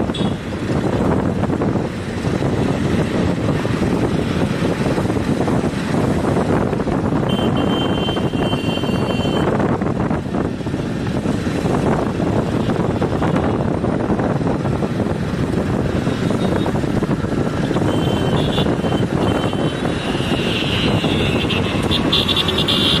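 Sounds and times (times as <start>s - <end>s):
road traffic rushing: 0.0s - 23.0s
wind on microphone: 0.0s - 23.0s.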